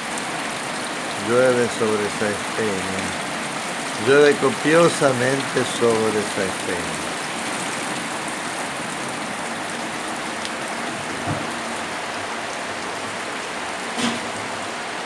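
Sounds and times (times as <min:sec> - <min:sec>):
heavy rain on surfaces: 0:00.0 - 0:15.0.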